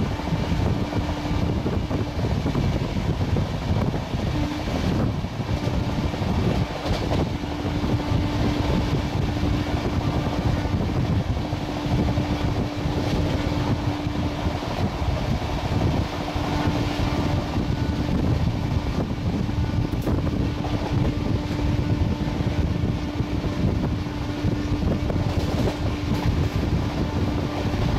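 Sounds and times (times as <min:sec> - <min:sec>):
rushing wind: 0:00.0 - 0:27.9
steady hum: 0:00.0 - 0:27.9
wheel-on-rail noise: 0:00.0 - 0:27.9.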